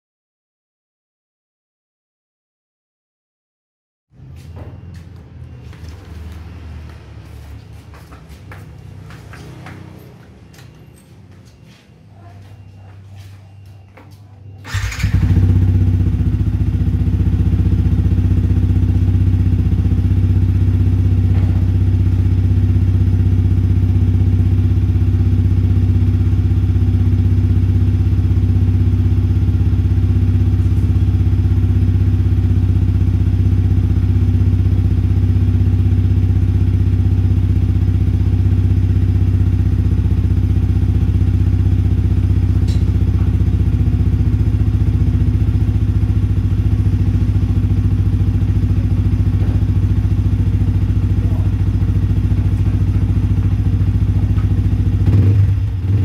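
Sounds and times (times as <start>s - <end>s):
motorcycle engine idling: 4.4s - 56.0s.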